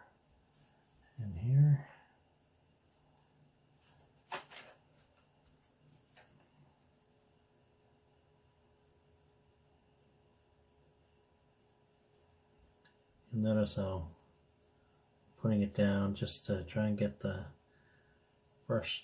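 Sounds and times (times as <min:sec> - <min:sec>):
faint steady hum: 0:00.0 - 0:19.0
paintbrush dabbing on paper: 0:00.0 - 0:19.0.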